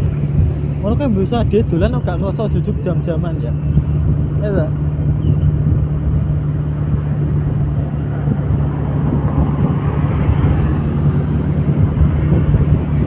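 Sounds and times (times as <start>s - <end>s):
road and wind noise: 0.0s - 13.0s
vehicle engine droning: 0.0s - 13.0s.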